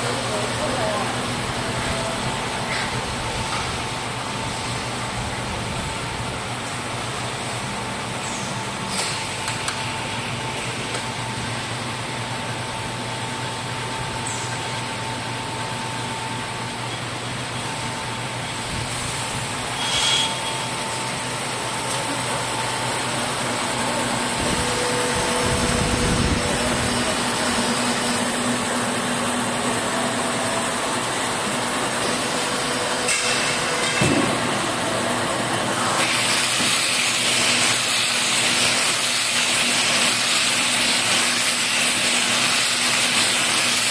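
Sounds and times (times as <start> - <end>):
baler machine drone: 0.0 - 38.0.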